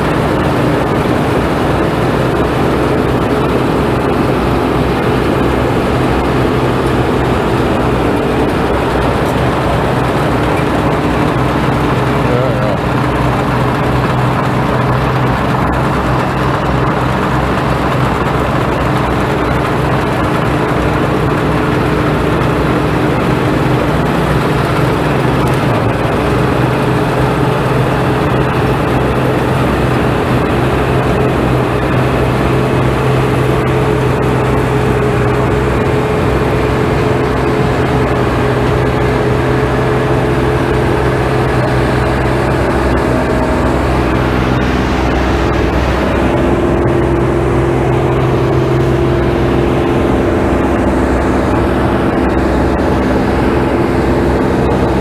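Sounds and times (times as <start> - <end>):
farm machine engine running: 0.0 - 55.0.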